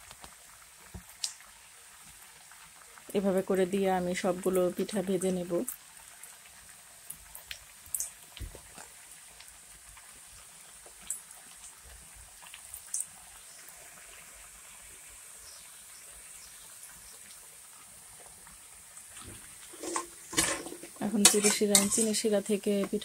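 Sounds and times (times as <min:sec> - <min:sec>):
dough frying in oil: 0:00.0 - 0:23.0.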